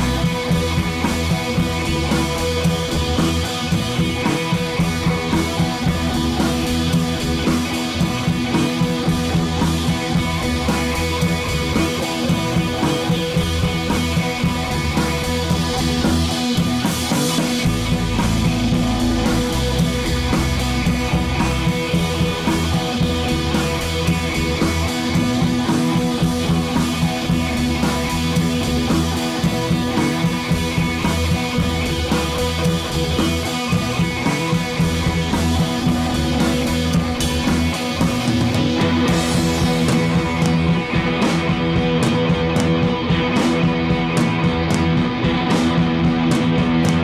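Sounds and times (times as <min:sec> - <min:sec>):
rock music with guitar and drums: 0:00.0 - 0:47.0.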